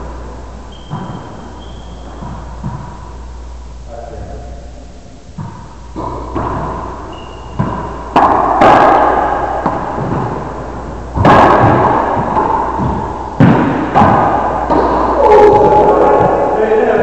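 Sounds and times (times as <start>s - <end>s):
racquetball cracks with echo: 0.0s - 3.3s, 5.3s - 17.0s.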